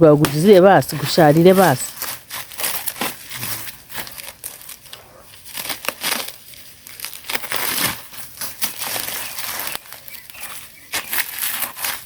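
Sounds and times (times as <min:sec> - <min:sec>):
dry material rustling and crackling: 0:00.1 - 0:12.0.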